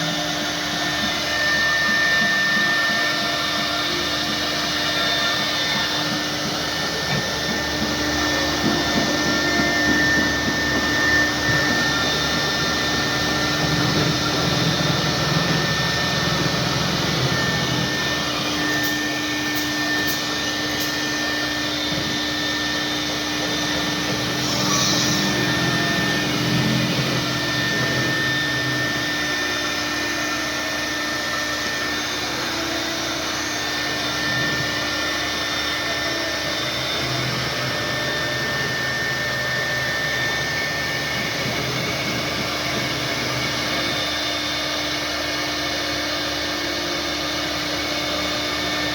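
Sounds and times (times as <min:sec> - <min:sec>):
electric motor whirring: 0:00.0 - 0:48.9.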